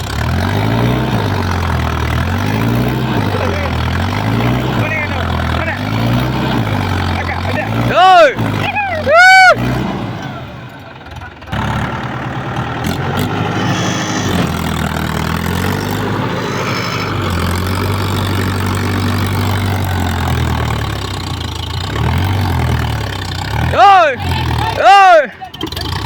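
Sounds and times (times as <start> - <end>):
tractor diesel engine straining: 0.0 - 24.6.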